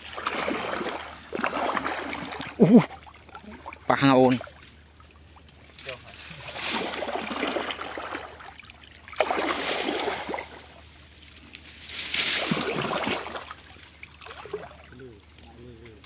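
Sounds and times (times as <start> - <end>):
pond water splashing: 0.0 - 16.0.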